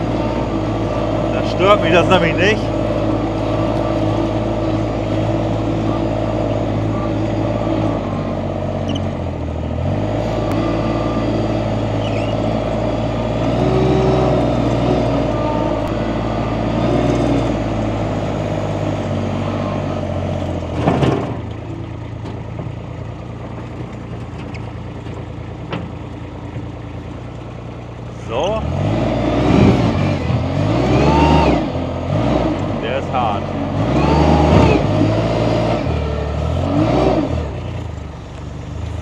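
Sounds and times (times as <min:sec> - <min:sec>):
loader engine running under load: 0:00.0 - 0:39.0.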